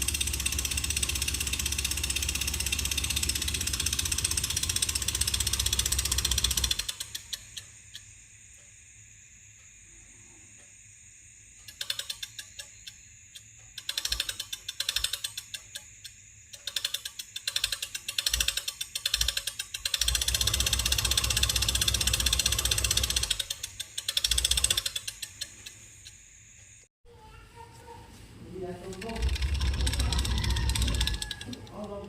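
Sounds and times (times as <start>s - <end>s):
small motor clicking rapidly: 0.0s - 8.1s, 11.6s - 26.3s, 28.8s - 32.0s.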